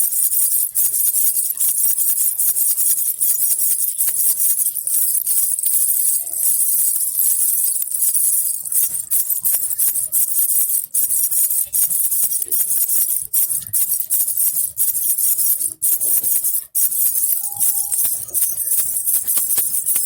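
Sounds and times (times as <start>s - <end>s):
baby rattle bells jingling: 0.0s - 20.0s.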